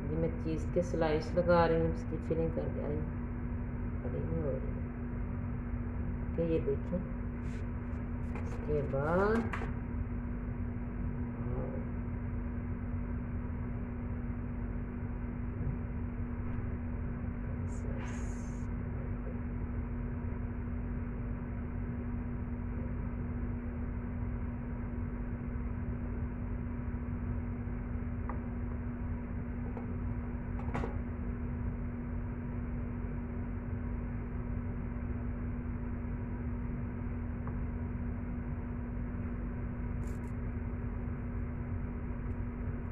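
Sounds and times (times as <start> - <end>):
steady hum: 0.0 - 42.9.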